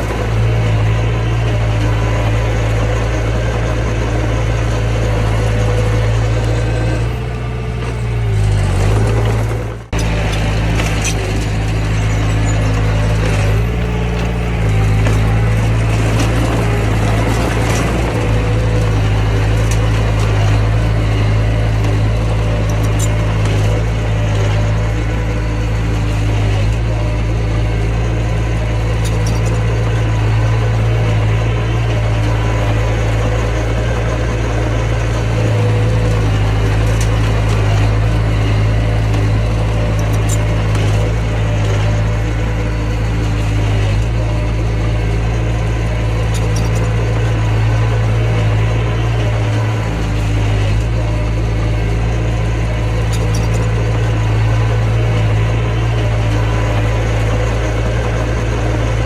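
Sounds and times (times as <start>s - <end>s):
bulldozer engine humming: 0.0s - 59.0s.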